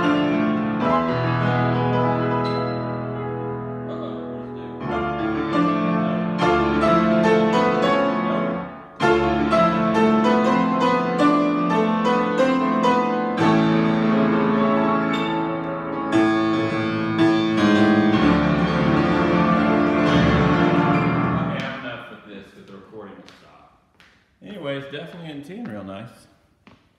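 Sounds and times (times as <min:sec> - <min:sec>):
piano chords: 0:00.0 - 0:22.0.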